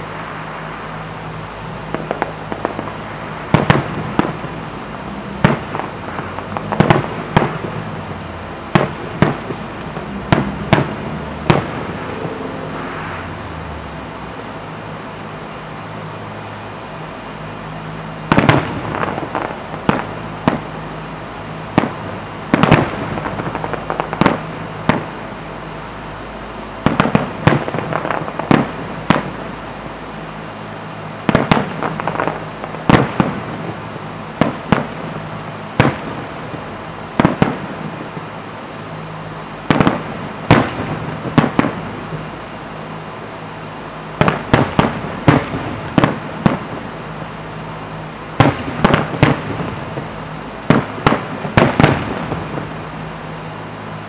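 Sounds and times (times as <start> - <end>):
fireworks bursting: 0.0 - 54.0
steady low hum: 0.0 - 54.0.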